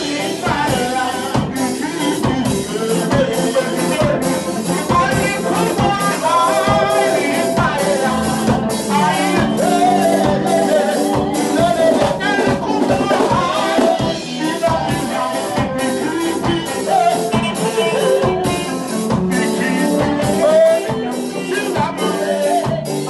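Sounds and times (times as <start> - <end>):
drums keeping steady beat: 0.0 - 23.0
live reggae band playing: 0.0 - 23.0.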